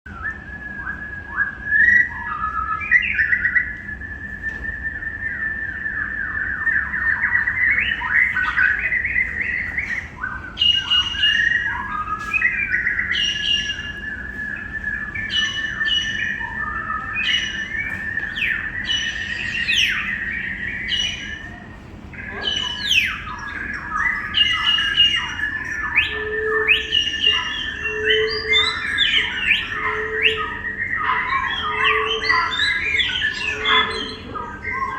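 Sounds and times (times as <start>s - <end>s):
steady high whistling tone: 0.1s - 34.9s
birds chirping and squawking: 6.7s - 34.9s.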